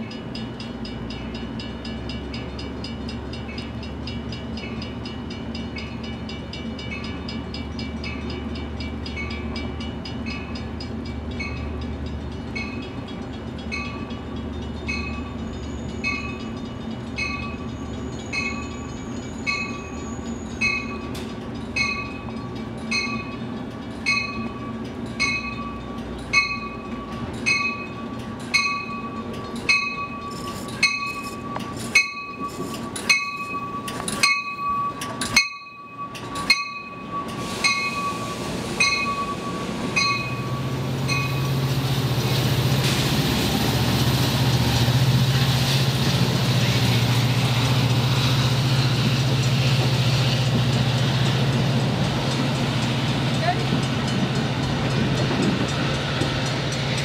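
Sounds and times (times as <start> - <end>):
crossing bell dinging: 0.0 - 42.8, 46.1 - 57.0
train rumble: 0.0 - 57.0.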